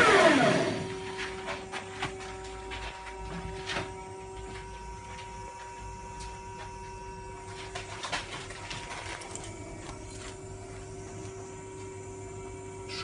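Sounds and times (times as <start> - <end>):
lathe machine hum: 0.0 - 7.5, 9.2 - 13.0.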